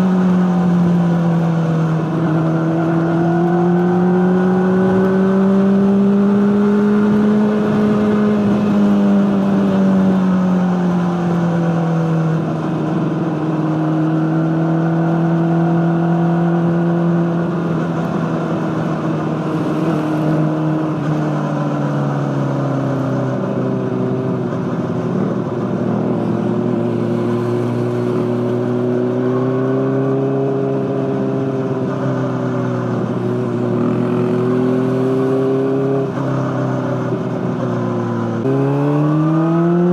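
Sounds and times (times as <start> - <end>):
motorcycle engine at steady revs: 0.0 - 39.9.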